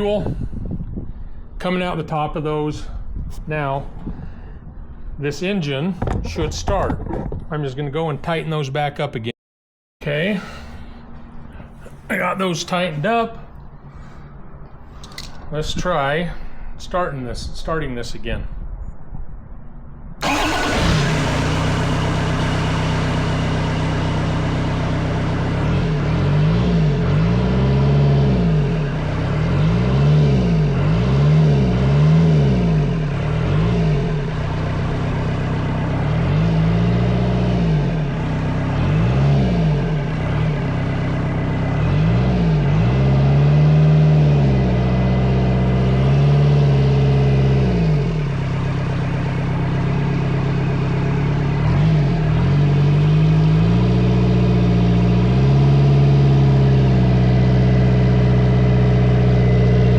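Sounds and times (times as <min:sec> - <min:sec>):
diesel engine starting and revving: 0:00.0 - 0:08.6, 0:20.2 - 0:59.9.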